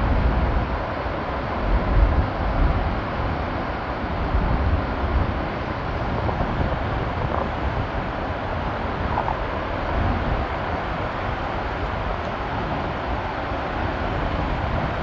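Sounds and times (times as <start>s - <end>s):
waterfall roaring onto rocks: 0.0s - 15.0s
wind buffeting microphone: 0.0s - 15.0s.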